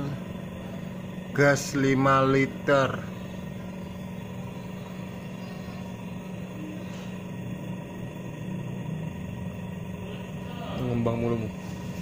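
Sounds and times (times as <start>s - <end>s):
ventilator humming: 0.0s - 12.0s.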